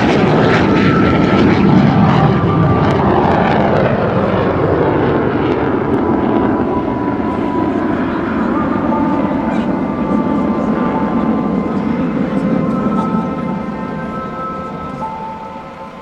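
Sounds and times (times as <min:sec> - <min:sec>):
jet engine roaring: 0:00.0 - 0:16.0.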